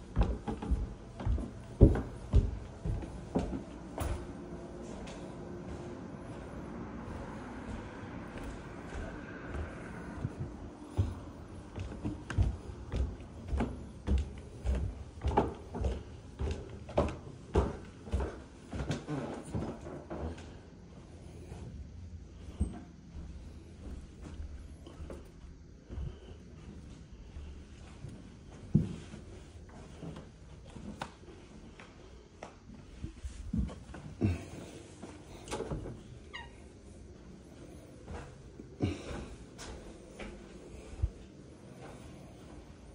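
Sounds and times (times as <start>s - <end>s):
footsteps on carpeted stairs: 0.0s - 21.8s, 22.4s - 42.9s.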